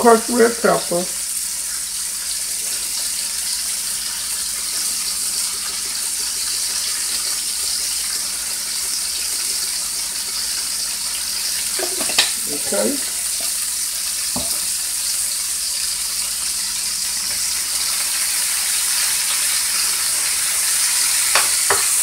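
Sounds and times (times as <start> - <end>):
meat sizzling in a skillet: 0.0 - 22.0.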